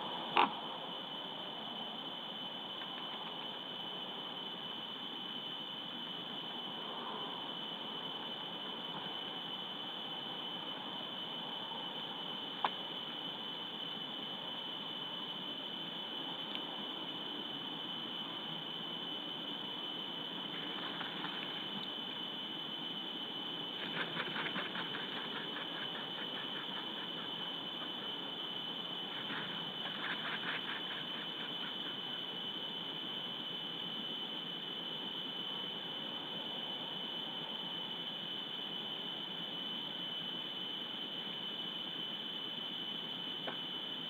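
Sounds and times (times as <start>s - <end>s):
constant high whine: 0.0s - 44.0s.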